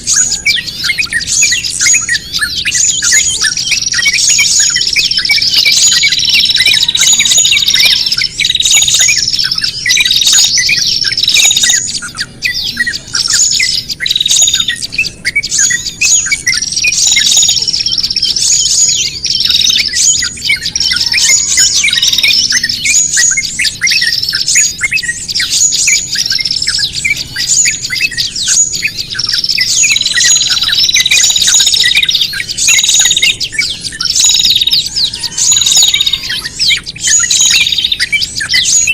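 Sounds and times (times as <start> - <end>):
songbirds chirping and squawking: 0.0 - 38.9.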